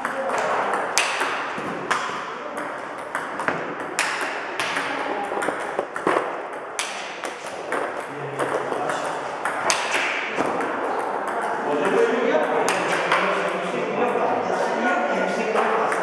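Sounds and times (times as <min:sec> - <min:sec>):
balls bouncing on tabletop: 0:00.0 - 0:14.2
table tennis balls clicking off rackets: 0:00.0 - 0:14.2.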